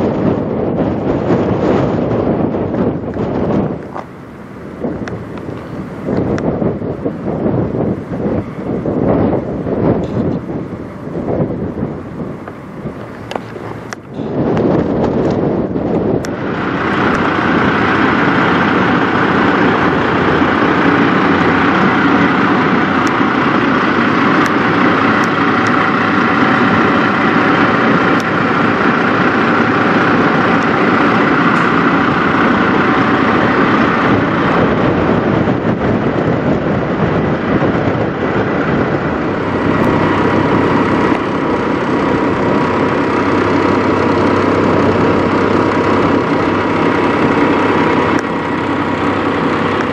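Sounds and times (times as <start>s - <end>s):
diesel truck engines idling: 0.0s - 49.9s
steady tone: 2.3s - 49.9s.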